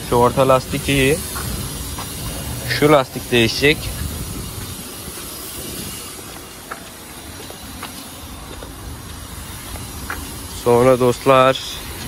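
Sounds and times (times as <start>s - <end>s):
steady hiss: 0.0s - 12.0s
faint footsteps ticking: 0.8s - 2.6s, 3.8s - 12.0s.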